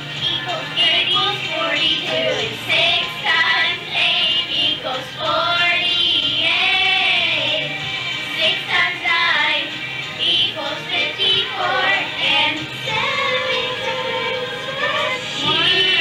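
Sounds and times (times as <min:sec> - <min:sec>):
backing music from a boombox: 0:00.0 - 0:16.0
girls singing into a microphone: 0:00.2 - 0:16.0.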